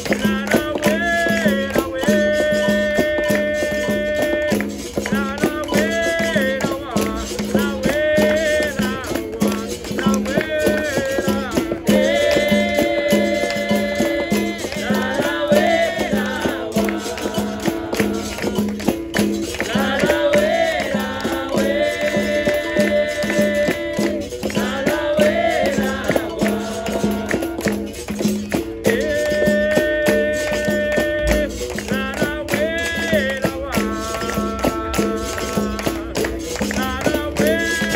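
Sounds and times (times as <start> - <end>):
berimbau and pandeiro rhythm: 0.0 - 37.9
voices singing: 0.0 - 37.9.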